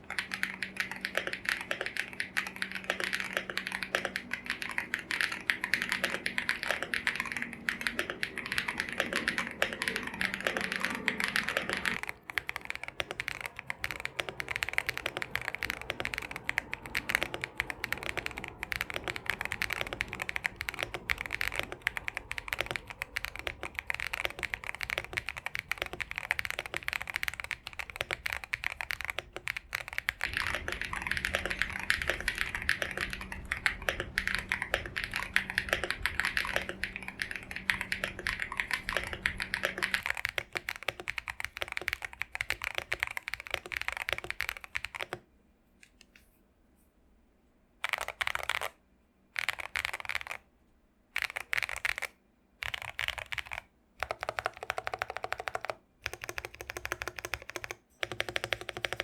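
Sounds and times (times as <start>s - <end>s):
mechanical keyboard typing: 0.0s - 45.3s, 47.8s - 48.8s, 49.4s - 50.5s, 51.2s - 59.0s.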